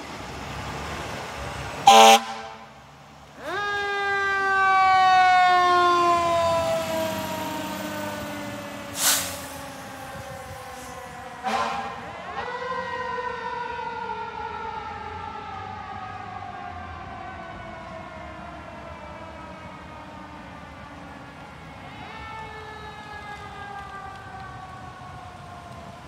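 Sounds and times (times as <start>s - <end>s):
fire engine siren: 0.0s - 26.0s.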